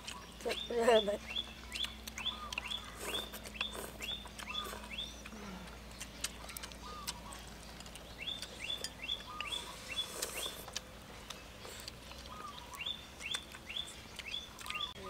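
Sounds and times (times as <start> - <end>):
bird calling rising notes: 1.2 - 5.4, 6.7 - 15.0.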